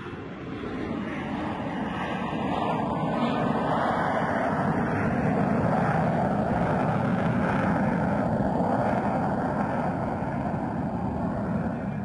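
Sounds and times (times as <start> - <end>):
jet flying past roaring: 0.0 - 12.0.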